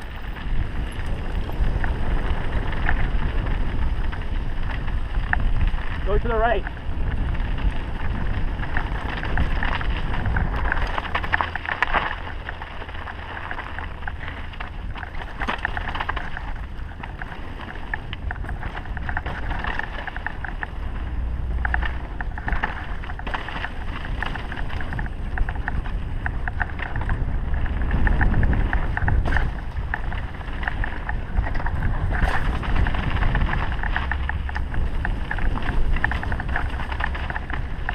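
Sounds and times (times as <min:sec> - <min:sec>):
bike rattling over bumps: 0:00.0 - 0:37.9
bike tyres rolling on dirt: 0:00.0 - 0:37.9
wind buffeting microphone: 0:00.0 - 0:37.9.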